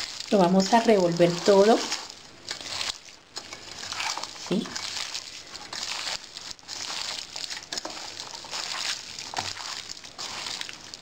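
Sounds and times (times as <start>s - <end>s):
hands squelching meat marinade: 0.0s - 11.0s.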